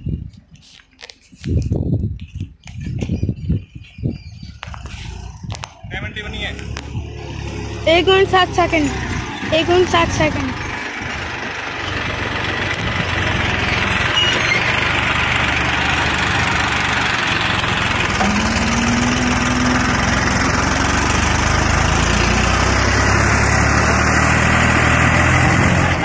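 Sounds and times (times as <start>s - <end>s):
tractor engine running under load: 4.9s - 26.0s.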